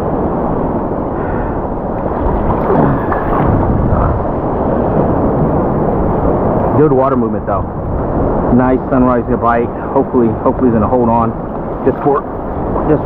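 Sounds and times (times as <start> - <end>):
surf waves washing: 0.0 - 13.0.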